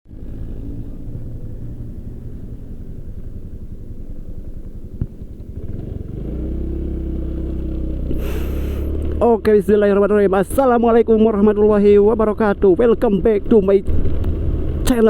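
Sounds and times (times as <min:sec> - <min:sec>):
motorcycle engine idling: 0:00.1 - 0:15.0.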